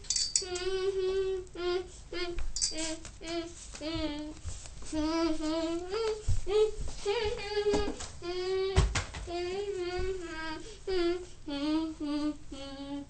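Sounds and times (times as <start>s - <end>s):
child singing wordless tune: 0.0s - 13.0s.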